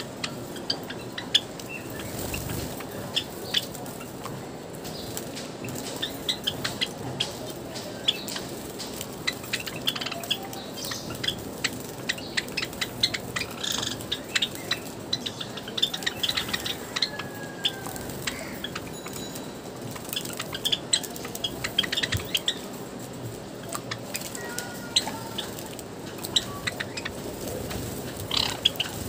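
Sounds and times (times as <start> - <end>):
sparrows chip calls: 0.0 - 22.8, 23.4 - 29.0.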